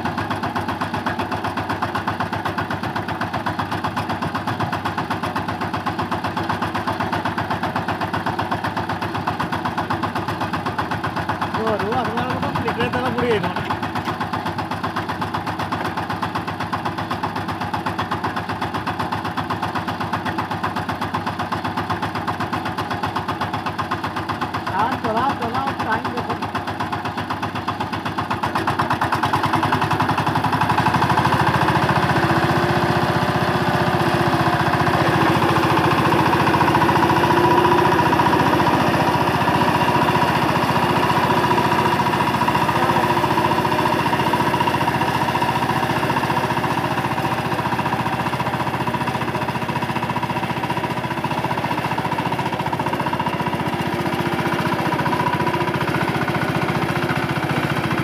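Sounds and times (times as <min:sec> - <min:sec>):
diesel engine running under load: 0:00.0 - 0:58.0
rotary tiller churning mud: 0:00.0 - 0:58.0.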